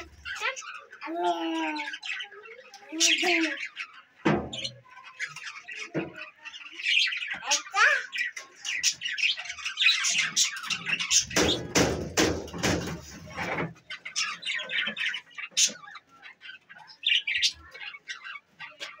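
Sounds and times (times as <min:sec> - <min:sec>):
budgerigars chirping and squawking: 0:00.0 - 0:19.0.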